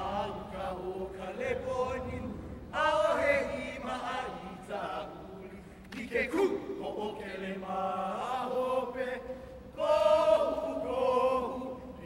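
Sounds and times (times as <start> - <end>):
voices chanting: 0.0 - 12.0.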